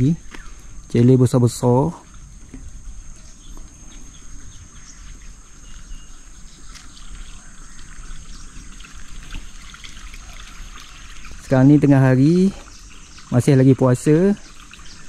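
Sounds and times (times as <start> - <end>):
bird chirps: 0.0 - 9.4, 10.2 - 15.0
high-pitched insect drone: 0.0 - 15.0.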